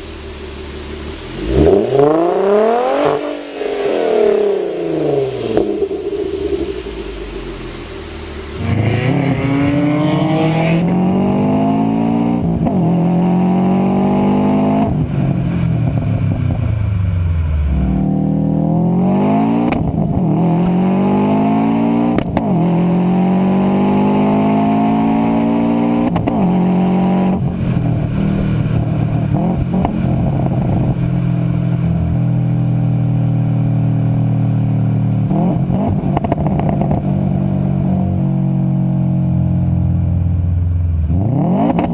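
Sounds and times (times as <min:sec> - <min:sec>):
sports car engine accelerating: 0:00.0 - 0:41.9.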